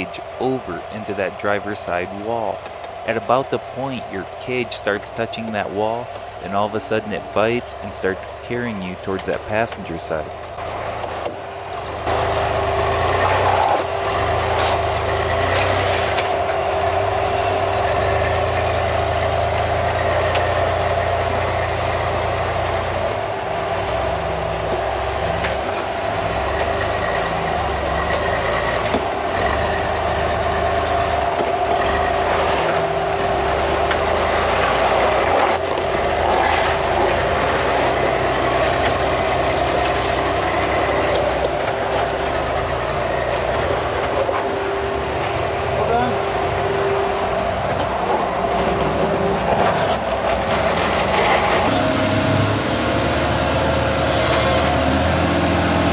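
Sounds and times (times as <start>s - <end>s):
buggy engine under load: 0.0s - 55.9s.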